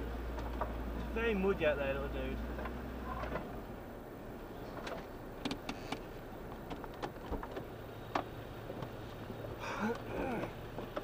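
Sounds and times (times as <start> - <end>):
faint engine hum: 0.0 - 11.0.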